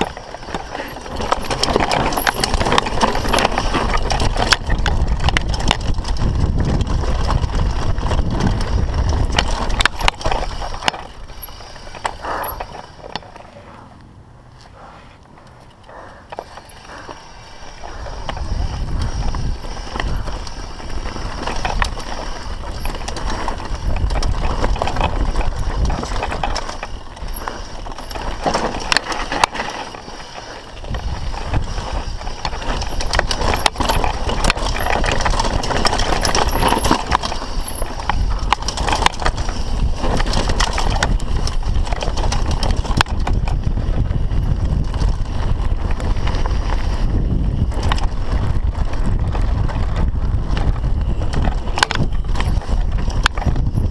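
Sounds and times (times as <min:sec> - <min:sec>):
bike rattling and clattering: 0:00.0 - 0:53.9
bike tyres on dirt and rocks: 0:00.0 - 0:53.9
wind rumble on microphone: 0:00.0 - 0:53.9.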